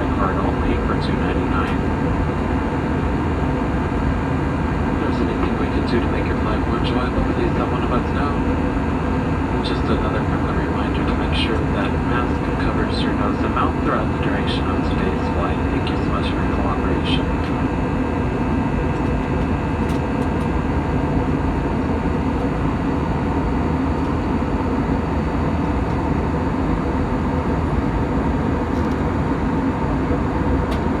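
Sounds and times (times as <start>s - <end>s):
airplane cabin rumble: 0.0s - 31.0s
faint constant hum: 0.0s - 31.0s.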